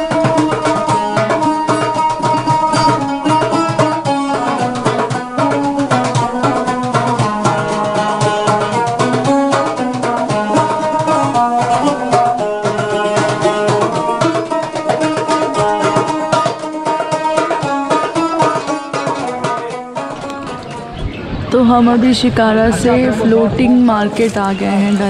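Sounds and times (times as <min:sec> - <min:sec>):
light percussion: 0:00.0 - 0:25.0
plucked-string tune: 0:00.0 - 0:25.0.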